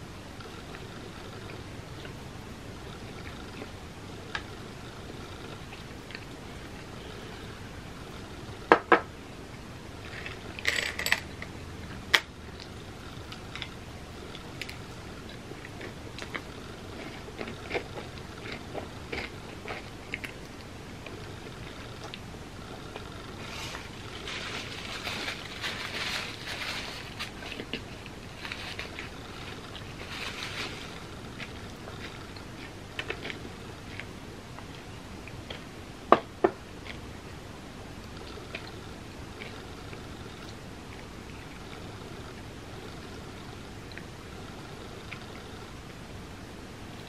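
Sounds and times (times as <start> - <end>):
quiet chewing and mouth sounds: 0.4 - 8.6, 11.2 - 35.8, 36.8 - 46.0.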